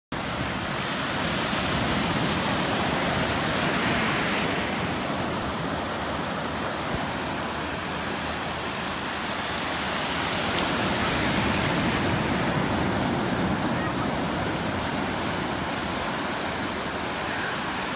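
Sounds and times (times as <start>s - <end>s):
ocean waves breaking: 0.2s - 17.9s.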